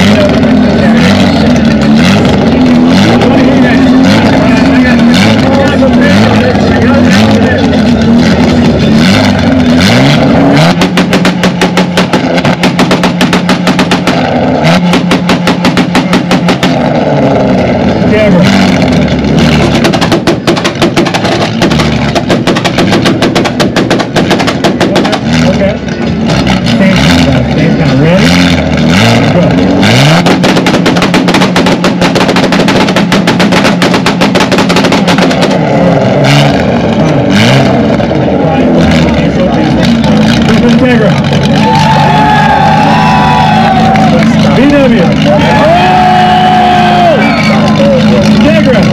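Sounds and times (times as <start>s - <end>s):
car engine revving: 0.0s - 48.9s
exhaust crackling pops: 0.0s - 48.9s.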